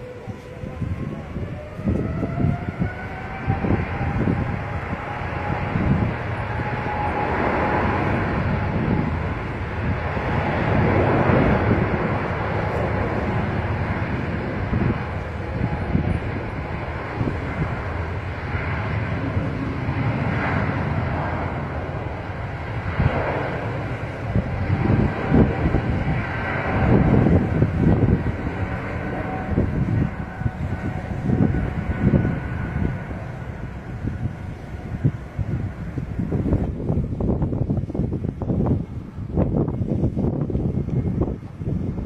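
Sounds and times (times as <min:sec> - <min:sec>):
aircraft rushing past: 0:00.0 - 0:42.0
jet engine whine: 0:00.0 - 0:42.0.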